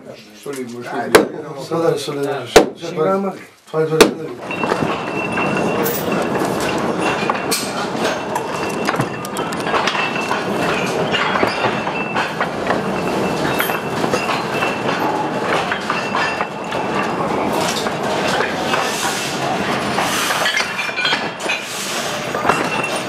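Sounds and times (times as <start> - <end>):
mine tub wheels clattering on rails: 4.2 - 23.0
metal clanks: 4.4 - 23.0.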